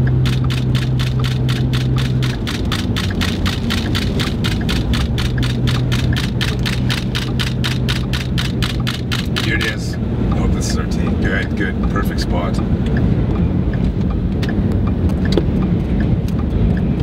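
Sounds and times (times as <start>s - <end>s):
rain hitting a vehicle: 0.0s - 16.5s
low vehicle hum: 0.0s - 17.0s.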